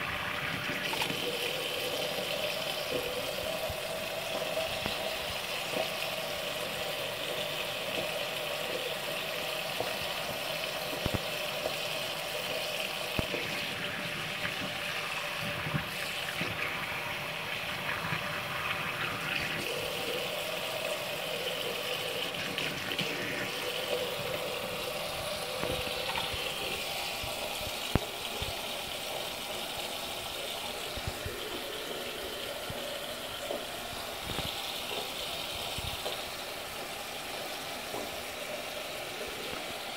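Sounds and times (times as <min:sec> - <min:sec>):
tap running into sink: 0:00.3 - 0:32.0, 0:32.6 - 0:37.1, 0:37.8 - 0:38.5.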